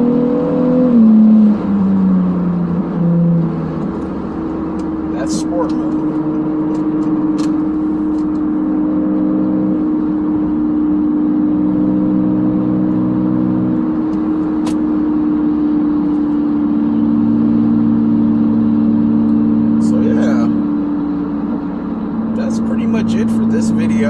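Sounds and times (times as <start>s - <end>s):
car engine droning in cabin: 0.0s - 24.0s.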